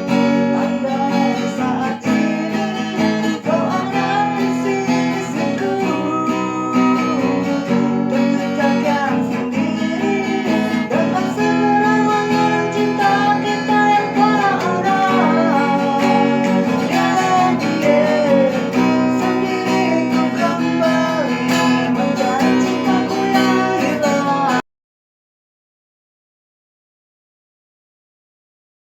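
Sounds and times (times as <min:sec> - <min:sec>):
acoustic guitar strumming: 0:00.0 - 0:24.6
person singing: 0:00.0 - 0:24.6.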